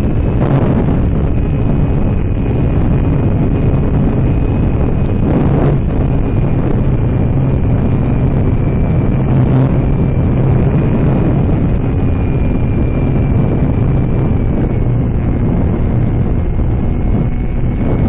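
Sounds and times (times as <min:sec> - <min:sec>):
faint high whine: 0:00.0 - 0:18.0
motor and propeller buzz: 0:00.0 - 0:18.0
wind rushing over microphone: 0:00.0 - 0:18.0.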